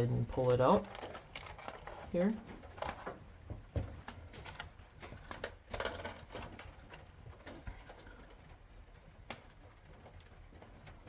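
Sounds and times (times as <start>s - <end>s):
cardboard and plastic packaging rustling: 0.0s - 11.0s.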